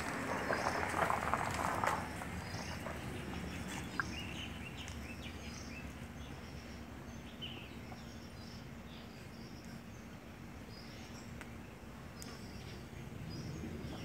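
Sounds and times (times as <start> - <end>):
low background rumble: 0.0 - 14.0
faint steady hum: 2.0 - 14.0.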